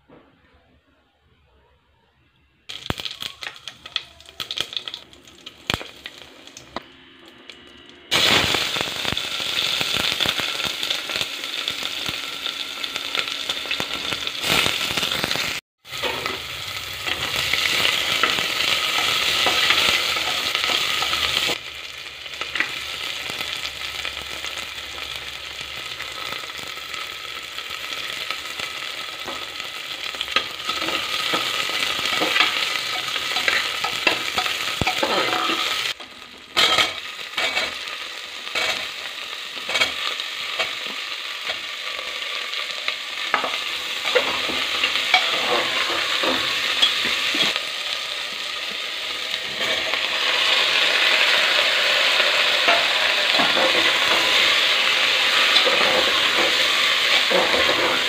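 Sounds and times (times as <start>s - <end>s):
onions sizzling in oil: 2.7s - 58.0s
seeds crackling in hot oil: 2.7s - 58.0s.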